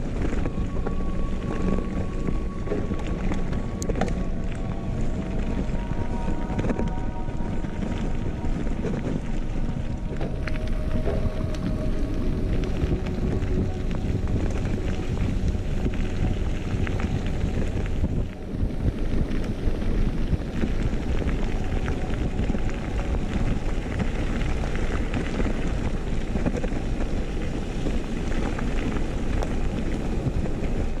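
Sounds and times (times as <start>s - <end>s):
bike tyres rolling over gravel: 0.0s - 31.0s
wind buffeting microphone: 0.0s - 31.0s.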